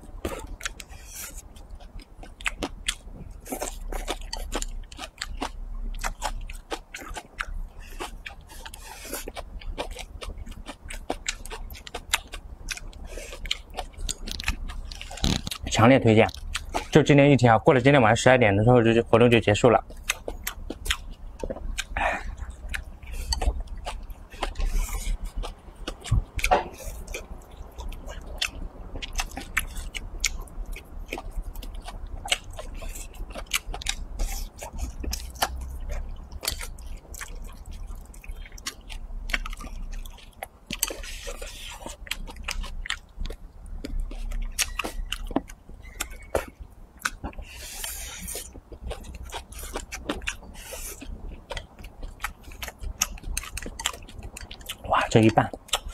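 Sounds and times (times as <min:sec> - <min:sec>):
close-miked wet chewing: 0:00.0 - 0:55.9.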